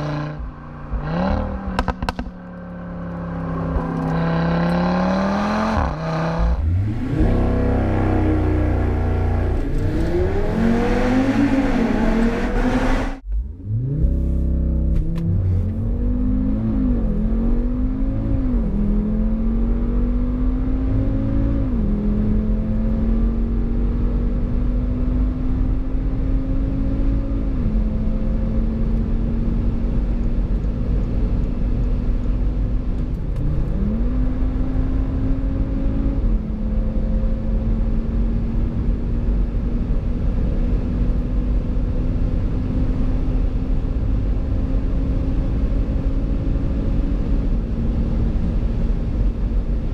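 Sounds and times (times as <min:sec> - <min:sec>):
car engine accelerating hard: 0:00.0 - 0:49.9.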